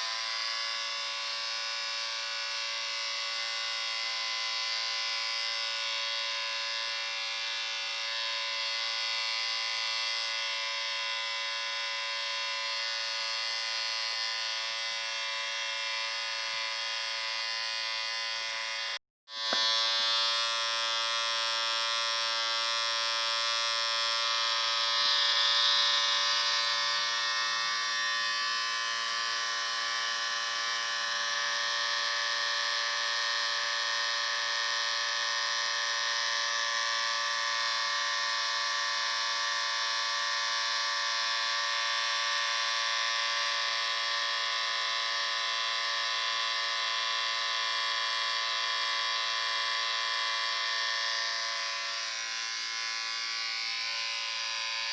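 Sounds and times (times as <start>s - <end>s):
electric shaver buzzing: 0.0s - 54.9s.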